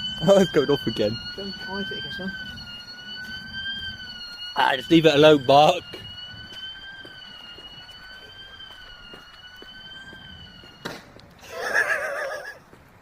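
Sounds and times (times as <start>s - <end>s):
high-pitched alarm tone: 0.0s - 12.7s.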